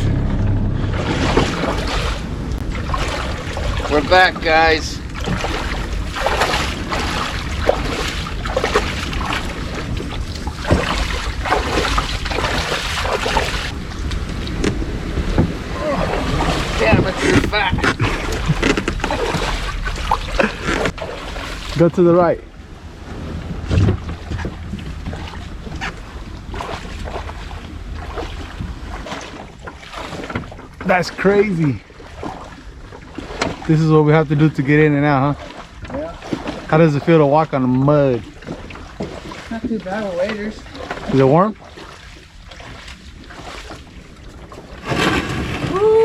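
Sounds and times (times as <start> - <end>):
boat knocks: 0.0 - 21.9, 23.1 - 33.7, 34.3 - 45.9
steady low rumble: 0.0 - 44.9
water splashes: 0.0 - 46.0.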